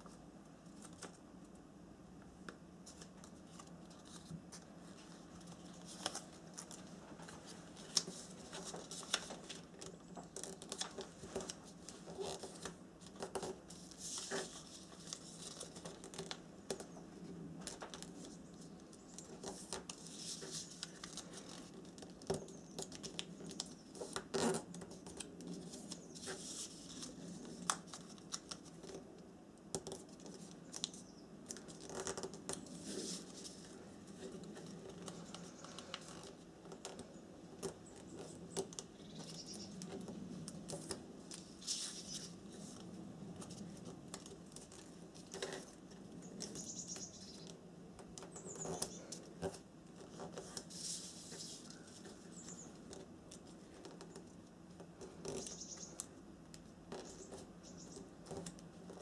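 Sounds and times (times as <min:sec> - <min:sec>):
paper rustling as folded: 0:02.8 - 0:29.1, 0:29.7 - 0:59.0.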